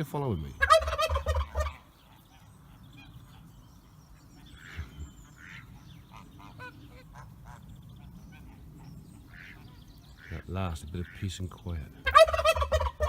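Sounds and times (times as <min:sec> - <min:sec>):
geese honking: 0:00.0 - 0:03.5, 0:04.4 - 0:13.0.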